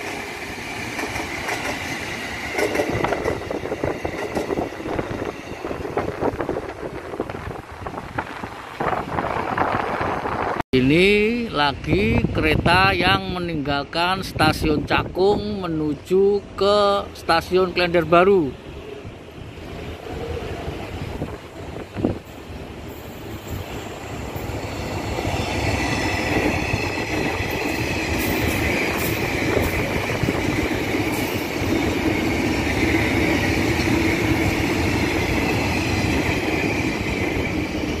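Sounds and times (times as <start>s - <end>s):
train running noise: 0.0s - 10.6s, 11.2s - 38.0s.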